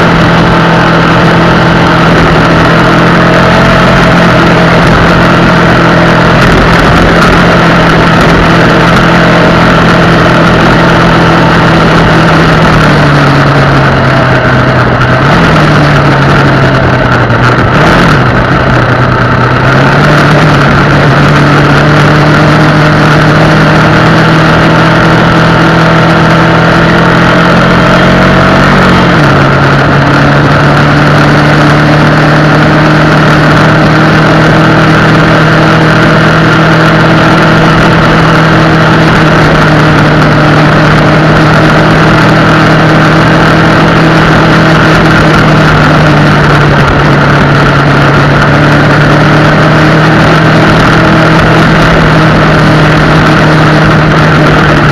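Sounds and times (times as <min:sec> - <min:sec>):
motorcycle engine running: 0:00.0 - 0:54.9
steady rushing noise: 0:00.0 - 0:54.9.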